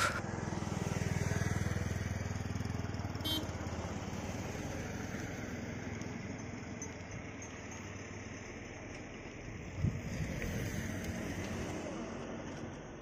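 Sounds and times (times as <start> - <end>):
vehicle engine pulsing: 0.0 - 12.3.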